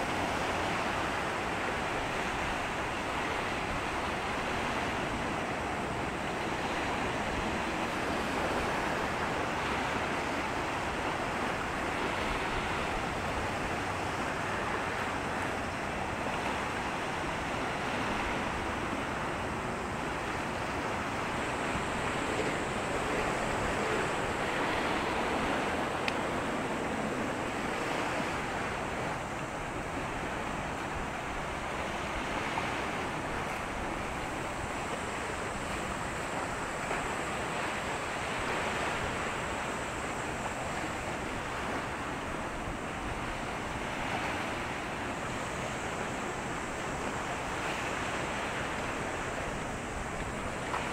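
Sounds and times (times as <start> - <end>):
rushing water: 0.0 - 50.9
wind: 0.0 - 50.9.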